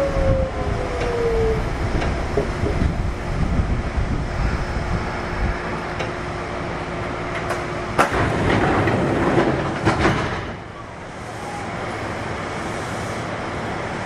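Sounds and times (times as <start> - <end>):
electric train inverter whine: 0.0 - 14.0
train wheels rumbling on rail: 0.0 - 14.0.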